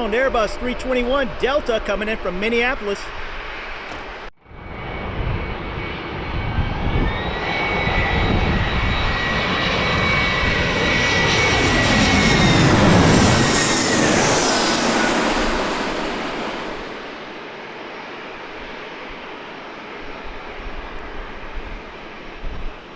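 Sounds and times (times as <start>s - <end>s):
jet airliner engine whine and rumble: 0.0s - 22.9s.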